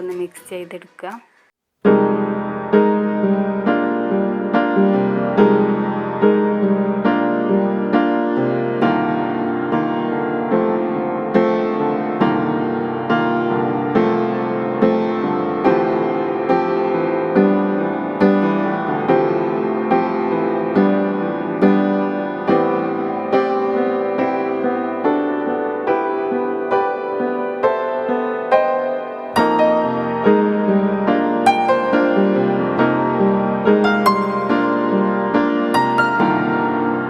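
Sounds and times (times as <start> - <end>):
slow piano music: 1.8 - 37.0.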